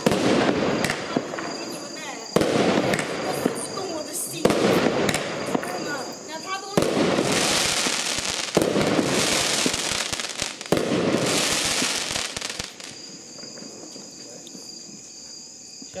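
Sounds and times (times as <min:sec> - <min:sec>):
firework crackling: 0:00.0 - 0:14.7
firework bangs: 0:00.0 - 0:15.0.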